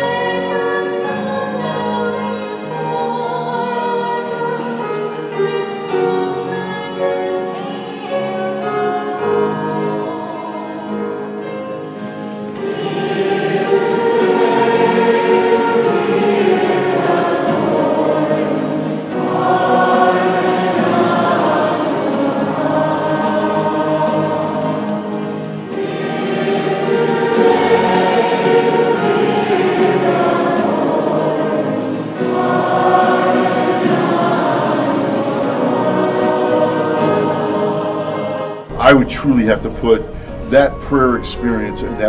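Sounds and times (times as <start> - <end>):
choir singing sacred music: 0.0 - 42.0.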